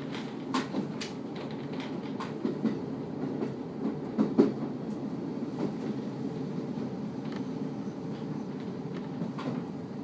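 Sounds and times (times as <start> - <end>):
train cabin rumble: 0.0 - 10.0.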